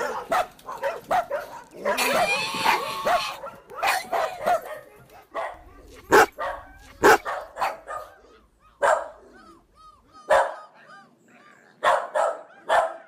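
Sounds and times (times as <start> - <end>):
dog yipping and barking: 0.0 - 13.0.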